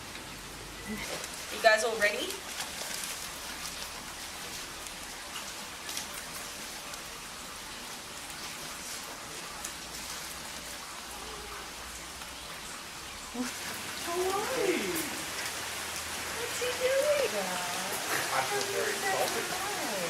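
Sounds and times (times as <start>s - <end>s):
raindrops tapping close by: 0.0s - 20.0s
steady rain falling: 0.0s - 20.0s.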